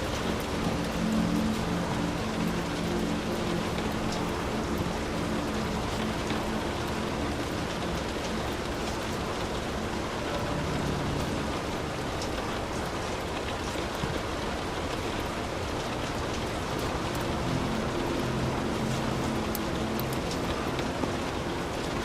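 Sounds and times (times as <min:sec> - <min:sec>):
heavy rain on a hut: 0:00.0 - 0:22.0.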